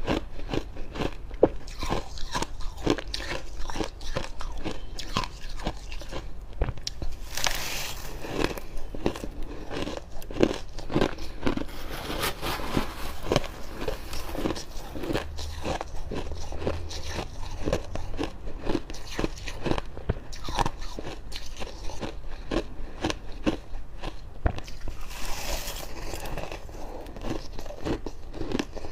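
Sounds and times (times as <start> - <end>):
frost being chewed crunching: 0.0 - 28.9.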